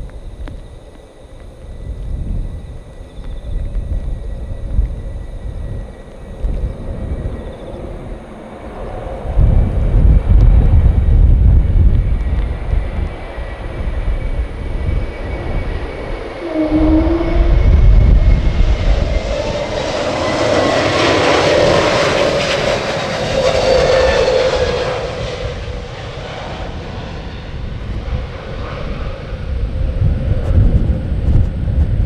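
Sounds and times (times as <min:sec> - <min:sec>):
jet engines roaring overhead: 0:00.0 - 0:32.0
wind rumbling on microphone: 0:00.0 - 0:32.0.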